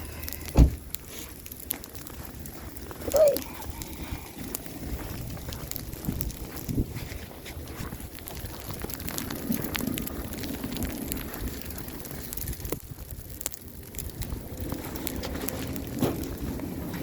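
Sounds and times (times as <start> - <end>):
faint crackles: 0.0 - 17.0
wind rumbling on microphone: 0.0 - 17.0.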